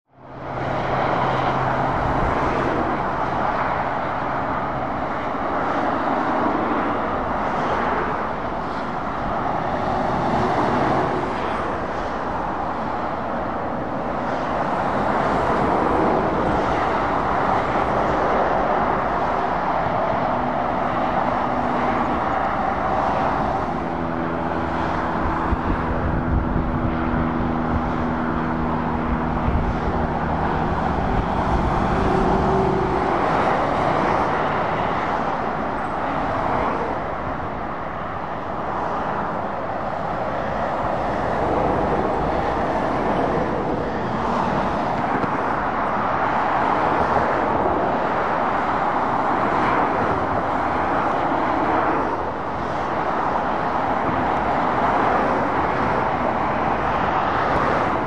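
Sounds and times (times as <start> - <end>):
truck engines humming: 0.1 - 58.0
vehicles passing with road noise: 0.1 - 58.0.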